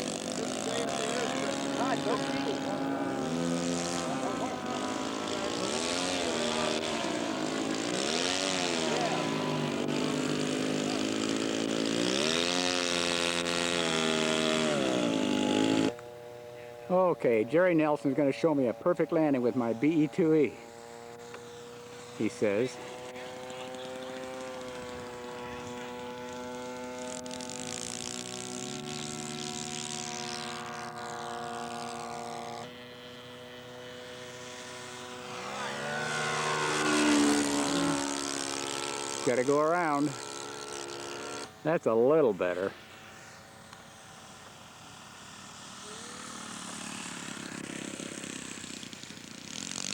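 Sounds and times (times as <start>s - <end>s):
model airplane engine running: 0.0s - 49.9s.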